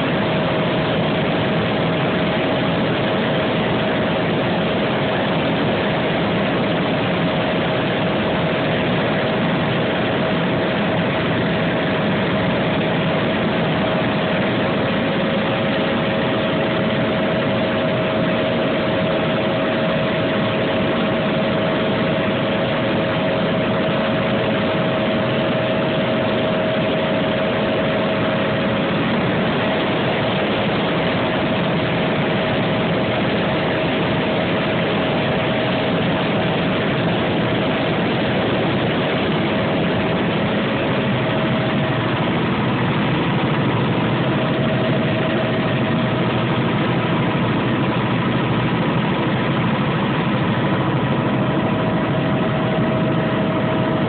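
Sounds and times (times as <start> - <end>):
helicopter engine and rotor noise: 0.0 - 54.0.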